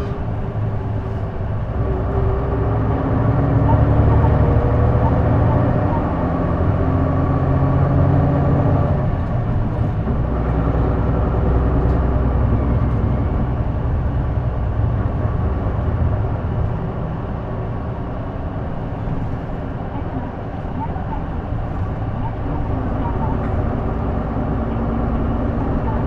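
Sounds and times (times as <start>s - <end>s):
bus engine droning: 0.0s - 26.0s
road noise: 0.0s - 26.0s.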